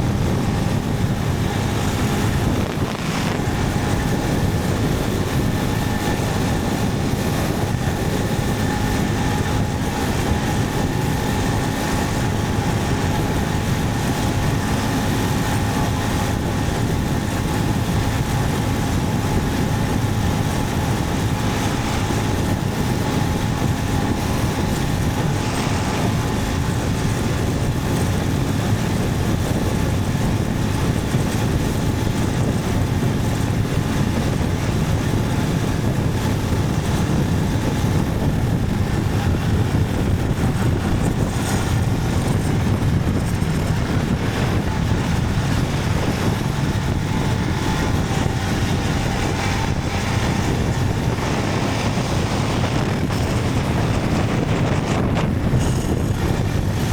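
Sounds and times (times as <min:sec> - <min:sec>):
motorcycle engine: 0:00.0 - 0:56.9
wind rush on microphone: 0:00.0 - 0:56.9.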